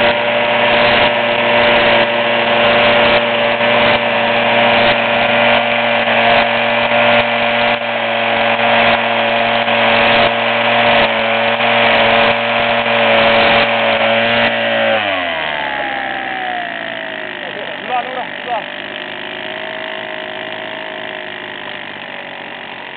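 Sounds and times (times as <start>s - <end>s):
tea harvester engine running: 0.0s - 22.9s.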